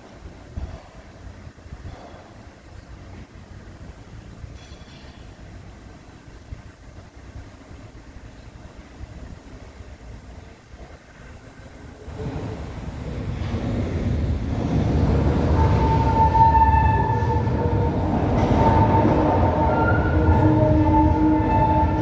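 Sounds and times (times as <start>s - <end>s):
tram rumble on rails: 0.0s - 22.0s.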